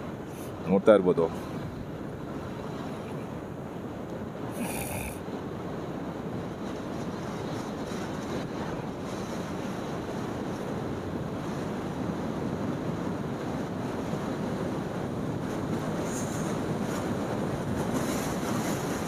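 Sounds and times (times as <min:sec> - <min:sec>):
wind rush over microphone: 0:00.0 - 0:19.0.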